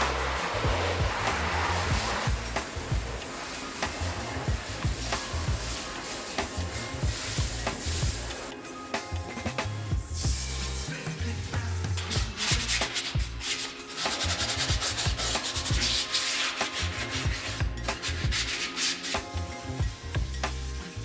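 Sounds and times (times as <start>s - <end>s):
rubbing strokes on a surface: 0.0s - 8.5s, 12.0s - 21.0s
background music with bass line: 0.0s - 21.0s.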